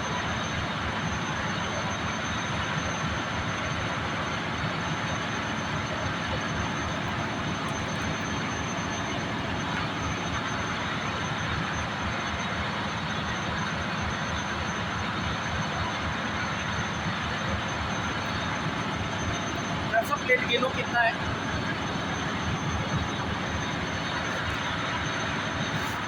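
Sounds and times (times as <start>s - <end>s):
engines and fans running: 0.0s - 26.0s
faint high whine: 0.0s - 26.0s.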